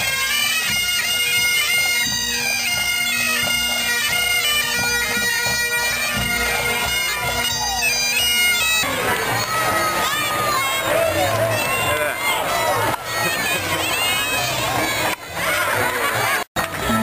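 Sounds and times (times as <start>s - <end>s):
bagpipes playing a tune: 0.0s - 17.0s.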